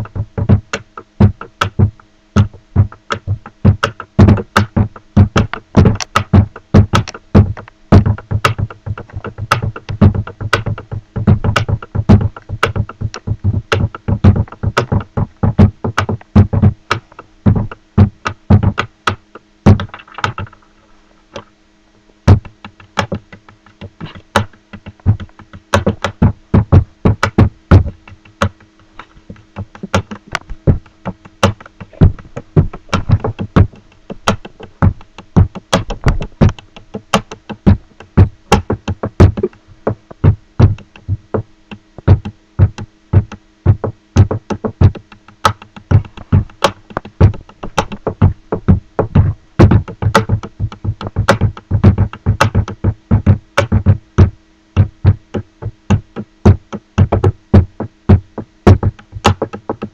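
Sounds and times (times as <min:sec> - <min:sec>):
pen and hands drumming on table: 0:00.0 - 0:20.6, 0:22.3 - 0:28.7, 0:29.3 - 0:41.4, 0:42.0 - 0:59.9.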